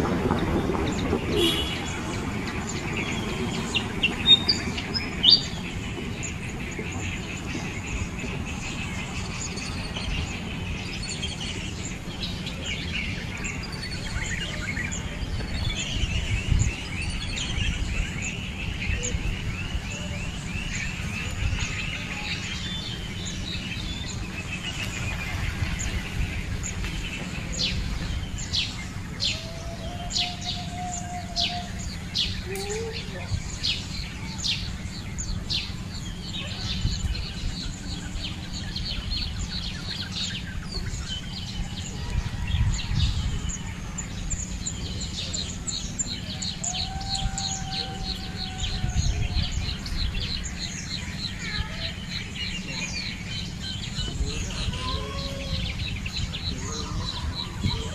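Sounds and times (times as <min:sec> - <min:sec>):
birds chirping and trilling: 0:00.0 - 0:57.9
low outdoor rumble: 0:00.0 - 0:57.9.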